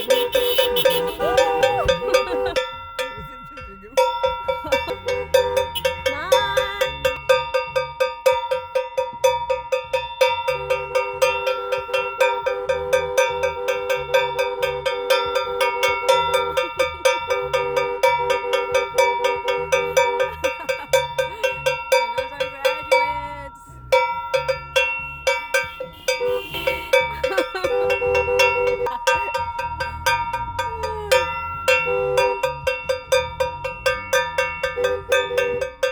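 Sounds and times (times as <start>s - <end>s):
car horns honking: 0.0s - 35.9s
cowbell struck: 0.0s - 35.9s.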